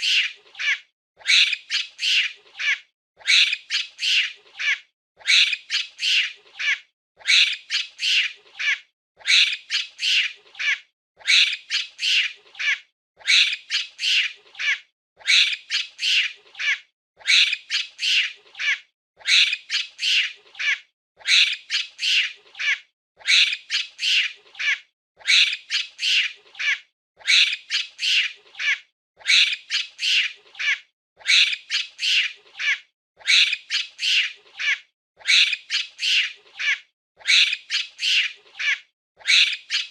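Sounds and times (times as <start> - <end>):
monkey chattering squeals: 0.0 - 39.9.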